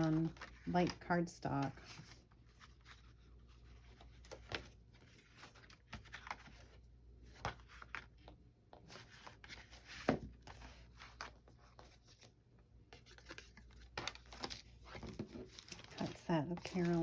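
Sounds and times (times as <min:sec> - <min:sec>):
paper rustling and crackling: 0:00.0 - 0:17.0.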